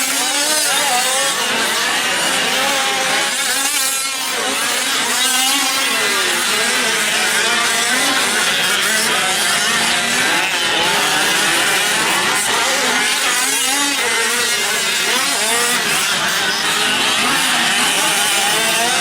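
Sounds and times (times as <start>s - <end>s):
small two-stroke engines buzzing: 0.0s - 19.0s.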